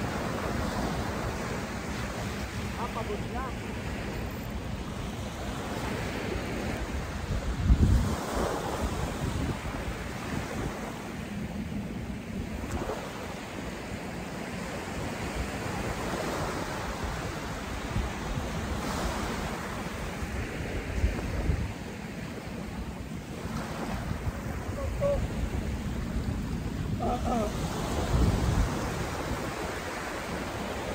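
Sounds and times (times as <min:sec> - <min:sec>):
wind gusting on microphone: 0:00.0 - 0:13.8, 0:14.8 - 0:30.9
small waves breaking on shore: 0:00.0 - 0:30.9.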